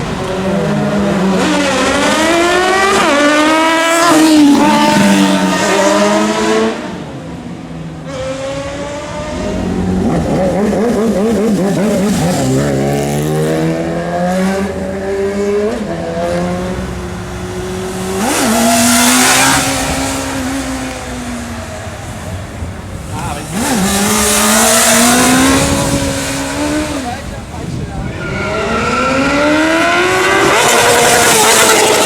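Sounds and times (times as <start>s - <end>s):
motorcycle engines revving and passing: 0.0s - 32.0s.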